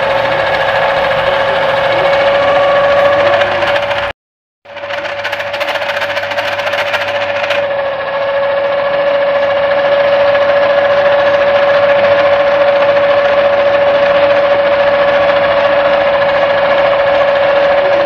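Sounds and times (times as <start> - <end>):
noodle machine motor whining: 0.0 - 4.1, 4.7 - 18.0.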